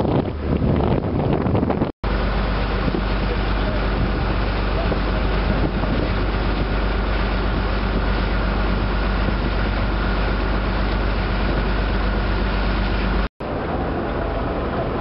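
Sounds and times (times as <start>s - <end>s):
boat engine drone: 0.0s - 15.0s
rushing water: 0.0s - 15.0s
wind noise: 0.0s - 15.0s.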